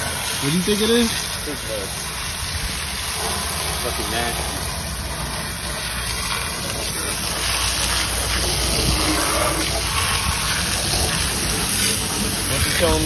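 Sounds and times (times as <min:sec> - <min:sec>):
hose water splashing off metal: 0:00.0 - 0:13.0.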